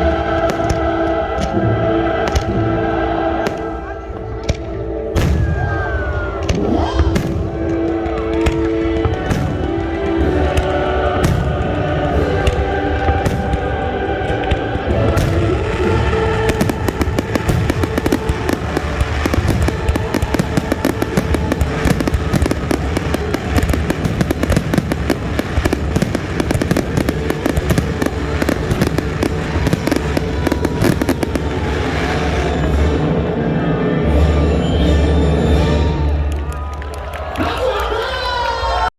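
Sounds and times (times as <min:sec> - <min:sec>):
fireworks bangs and crackles: 0:00.0 - 0:36.0
background music: 0:00.0 - 0:38.9.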